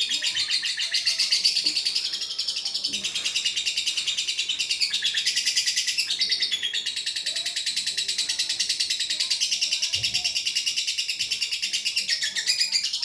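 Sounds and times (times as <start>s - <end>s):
lovebird chattering song: 0.0s - 13.0s.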